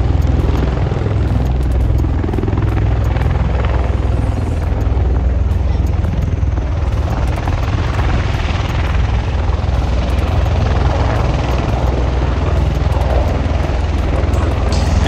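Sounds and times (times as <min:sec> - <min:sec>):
helicopter rotors chopping: 0:00.0 - 0:15.0.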